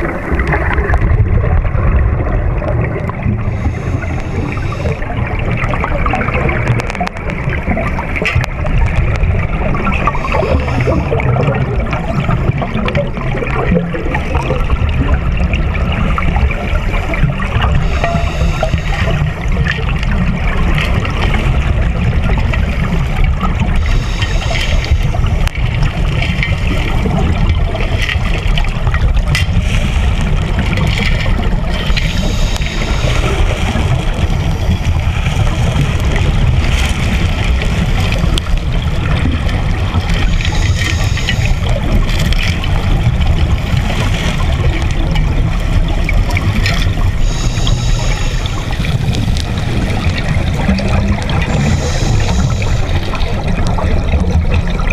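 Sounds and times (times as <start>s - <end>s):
gurgling bubbles: 0.0s - 54.9s
underwater rush of water: 0.0s - 54.9s.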